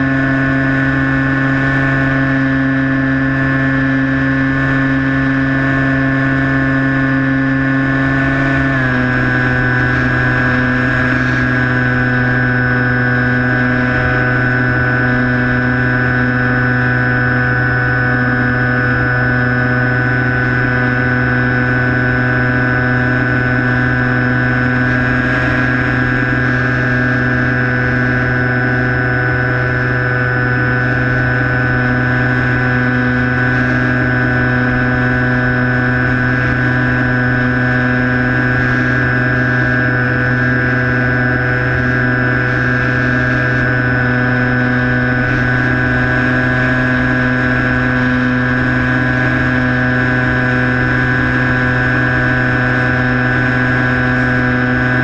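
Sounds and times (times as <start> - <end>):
electric motor and propeller whining: 0.0 - 55.0.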